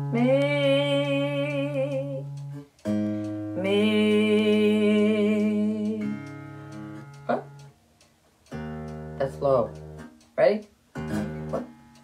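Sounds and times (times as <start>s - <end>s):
acoustic guitar notes ringing: 0.0s - 12.0s.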